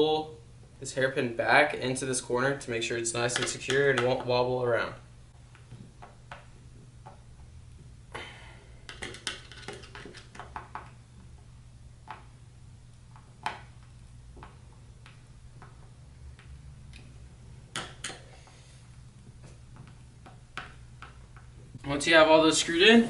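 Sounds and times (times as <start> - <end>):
steady low hum: 0.0 - 9.1, 9.9 - 23.0.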